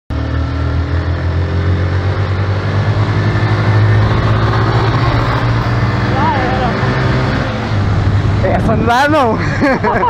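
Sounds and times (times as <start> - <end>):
motorcycle engine droning: 0.1 - 10.0
road and wind noise: 0.1 - 10.0.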